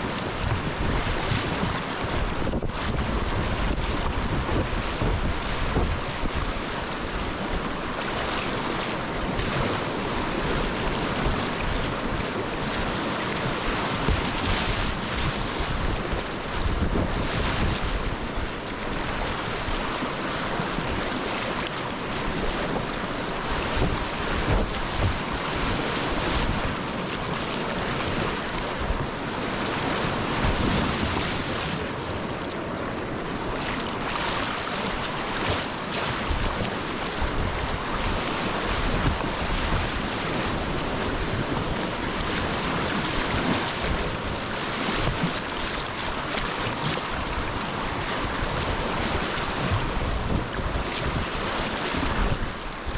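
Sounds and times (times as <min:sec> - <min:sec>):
whitewater rapids rushing: 0:00.0 - 0:52.9
wind buffeting microphone: 0:00.0 - 0:52.9.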